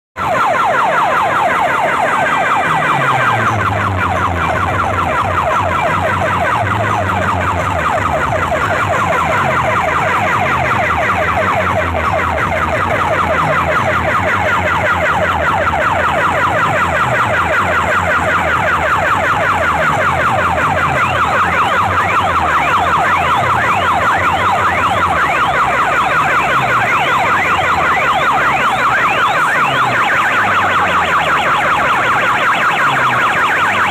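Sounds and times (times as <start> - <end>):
rising siren-like synth sweep: 0.2 - 33.9
deep sliding bass line: 0.6 - 33.8.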